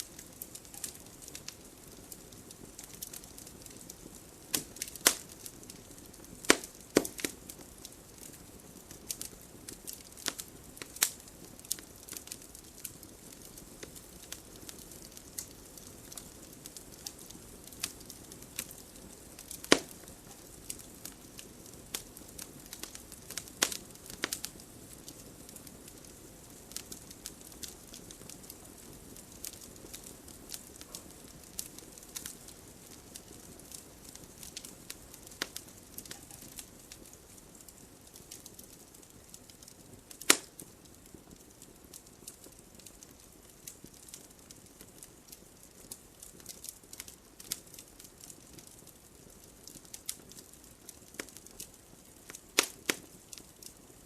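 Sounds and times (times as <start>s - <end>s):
campfire crackling and popping: 0.0s - 54.0s
low fire hiss: 0.0s - 54.0s.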